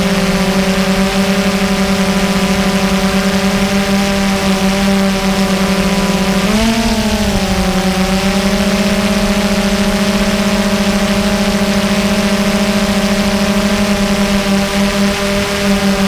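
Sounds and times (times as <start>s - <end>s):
drone motors humming: 0.0s - 16.0s.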